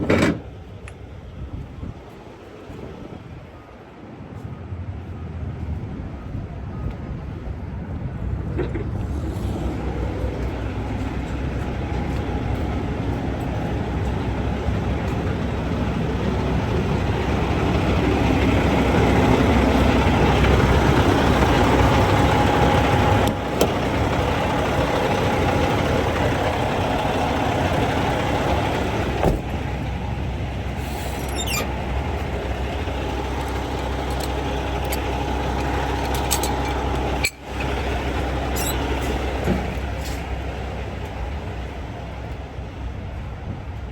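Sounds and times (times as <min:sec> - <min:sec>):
diesel truck engine running: 0:00.0 - 0:43.9.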